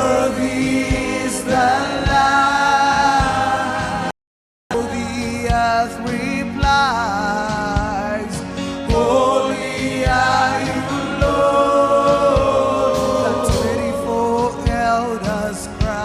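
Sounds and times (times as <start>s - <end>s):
gospel singing over a steady beat: 0.0s - 16.0s.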